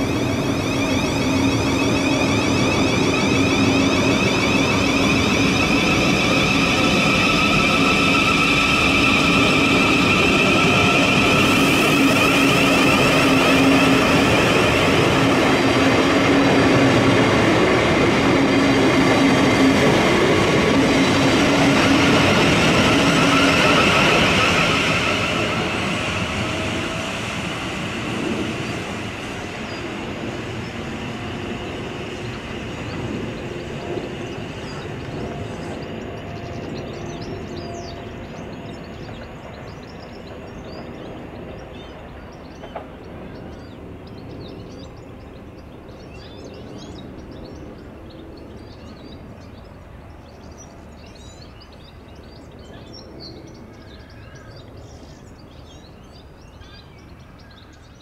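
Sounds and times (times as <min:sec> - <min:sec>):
birds chirping: 0:00.0 - 0:58.0
train rumble: 0:00.0 - 0:58.0.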